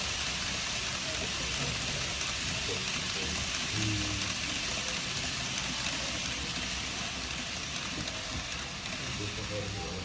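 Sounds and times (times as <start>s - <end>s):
model trains rolling on track: 0.0s - 10.0s.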